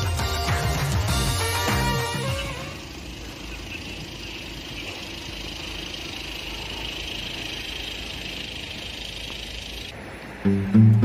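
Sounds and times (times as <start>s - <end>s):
street traffic with engines: 0.0s - 11.0s.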